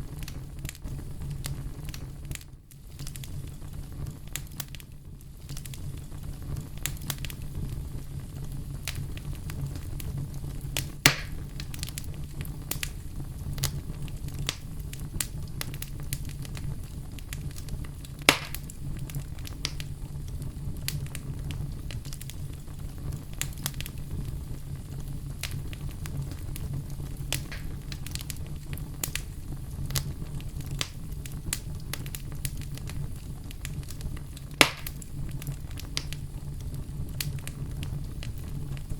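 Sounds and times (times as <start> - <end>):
campfire crackling: 0.0 - 38.9
loud fire pops: 0.0 - 38.9
low rumble of fire: 0.0 - 38.9.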